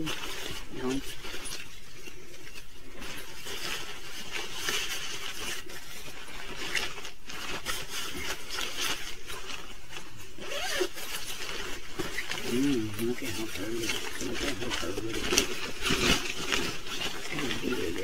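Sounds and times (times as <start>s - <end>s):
fabric bag rustling and scraping: 0.0s - 18.0s.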